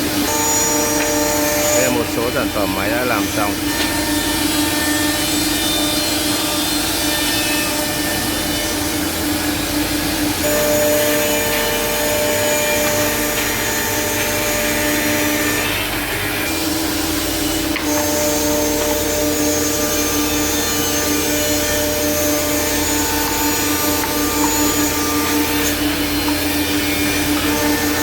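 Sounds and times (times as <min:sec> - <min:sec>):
cutters working wood: 0:00.0 - 0:28.0
spindle motors whining: 0:00.0 - 0:28.0.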